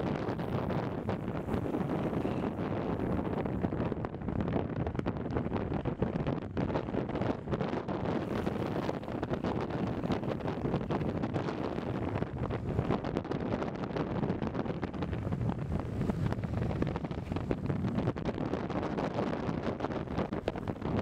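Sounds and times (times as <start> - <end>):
longboard wheels rolling on asphalt: 0.0 - 21.0
wind buffeting microphone: 0.0 - 21.0.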